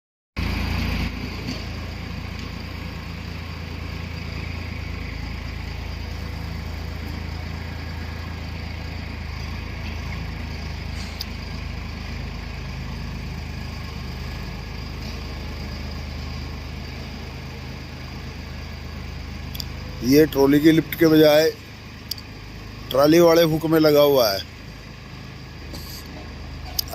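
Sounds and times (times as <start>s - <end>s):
tractor diesel engine running: 0.4s - 26.9s.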